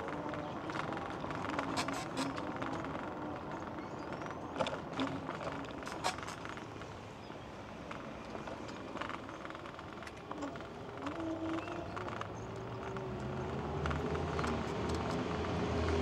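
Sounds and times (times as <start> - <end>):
wheels rolling on concrete: 0.0 - 16.0.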